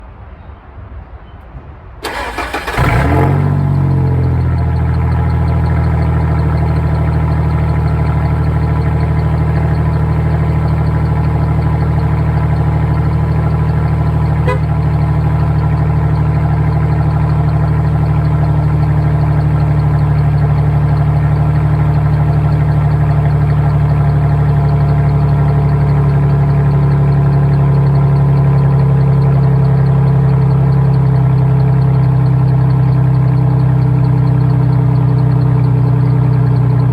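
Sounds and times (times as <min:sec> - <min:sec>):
truck engine starting and idling: 0:02.0 - 0:36.9.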